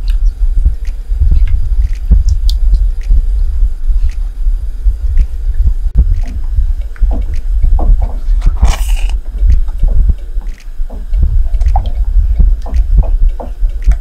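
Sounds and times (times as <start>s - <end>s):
heavy low rumble: 0.0s - 14.0s.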